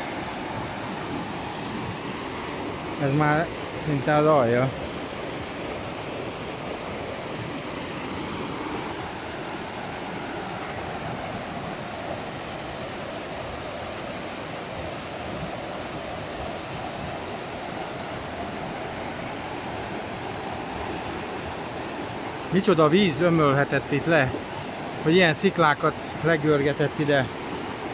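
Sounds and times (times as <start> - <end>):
river rushing over rocks: 0.0 - 27.9.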